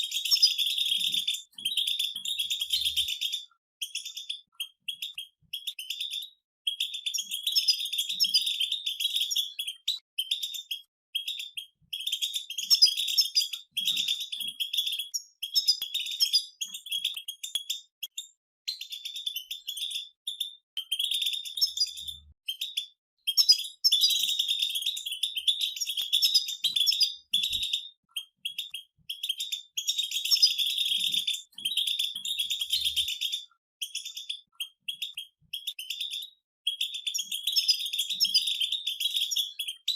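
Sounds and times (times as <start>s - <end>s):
goldfinches twittering: 0.0s - 18.2s, 18.8s - 36.2s.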